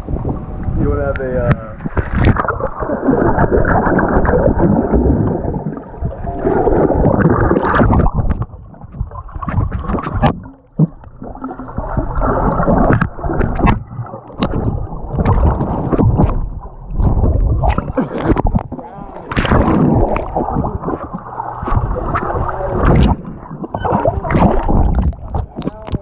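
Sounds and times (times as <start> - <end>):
muffled water sloshing and gurgling: 0.0 - 26.0
sharp water splashes: 1.8 - 25.8.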